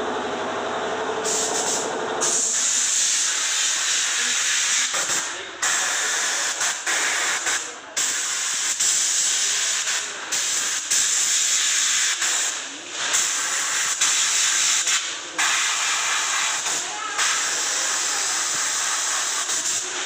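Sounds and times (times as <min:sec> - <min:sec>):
airbrush spraying hiss: 0:01.2 - 0:20.0.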